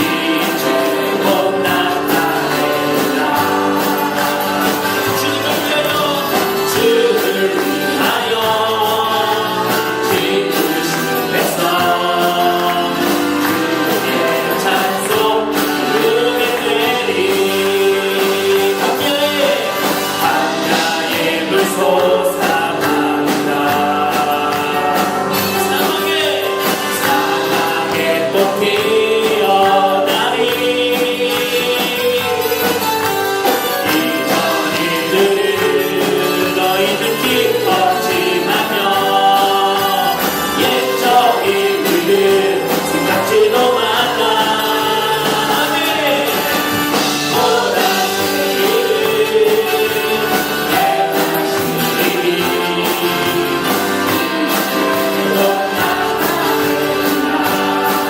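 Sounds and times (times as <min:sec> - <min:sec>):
band accompaniment: 0:00.0 - 0:58.0
group of voices singing: 0:00.0 - 0:58.0
tambourine jingle: 0:00.0 - 0:58.0.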